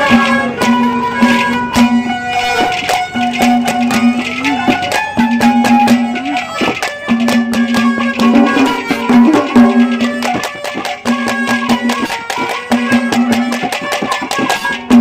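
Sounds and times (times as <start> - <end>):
fast drum beats: 0.0 - 15.0
folk melody in held notes: 0.0 - 15.0.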